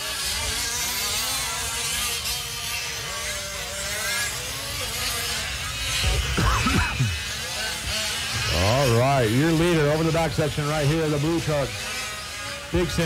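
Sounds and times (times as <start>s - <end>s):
small two-stroke engines buzzing: 0.0s - 13.0s.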